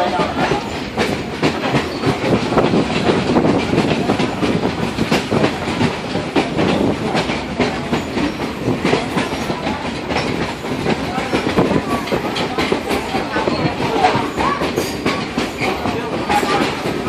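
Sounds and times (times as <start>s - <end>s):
train car rumbling on track: 0.0s - 17.0s
wheels clacking over rail joints: 0.0s - 17.0s.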